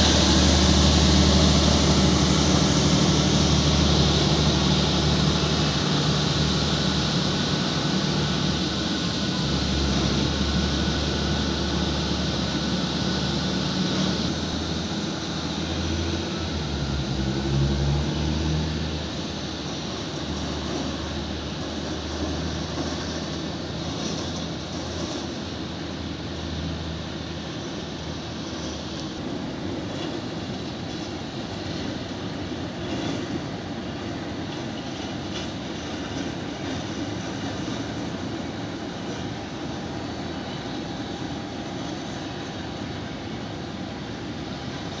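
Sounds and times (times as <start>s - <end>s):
jet engine roar: 0.0s - 45.0s.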